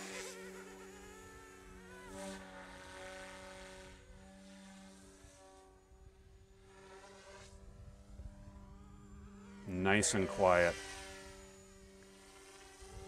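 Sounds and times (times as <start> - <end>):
rc helicopter whining: 0.0 - 13.0.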